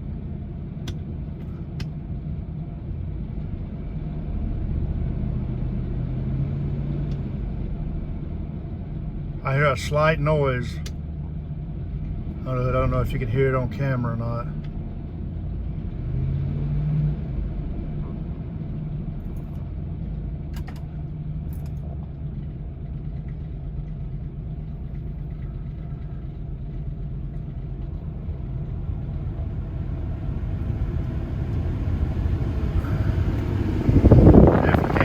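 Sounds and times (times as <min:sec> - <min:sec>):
car engine idling: 0:00.0 - 0:06.2, 0:07.2 - 0:16.0, 0:17.6 - 0:35.0.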